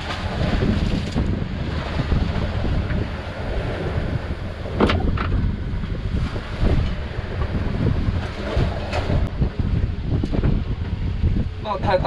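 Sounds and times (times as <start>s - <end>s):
outboard motor: 0.0s - 12.0s
waves splashing against hull: 0.0s - 12.0s
wind buffeting microphone: 0.0s - 12.0s.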